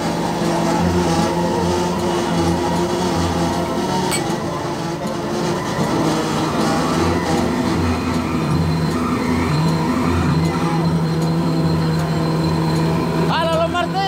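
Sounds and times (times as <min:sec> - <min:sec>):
ship engine hum: 0:00.0 - 0:14.0.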